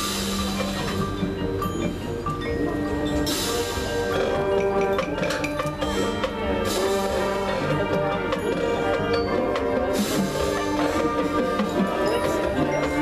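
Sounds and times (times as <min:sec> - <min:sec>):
bell-like percussion: 0:00.0 - 0:13.0
mallet keyboards: 0:00.0 - 0:13.0
marching band playing: 0:00.0 - 0:13.0.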